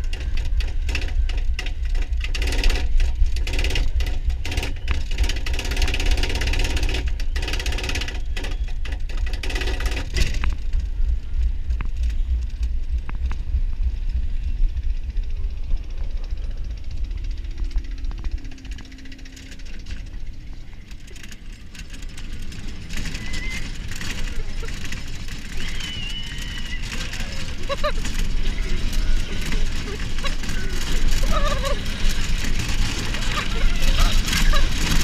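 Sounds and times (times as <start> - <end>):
roller coaster wheels rumbling: 0.0 - 35.0
wind noise on microphone: 0.0 - 35.0.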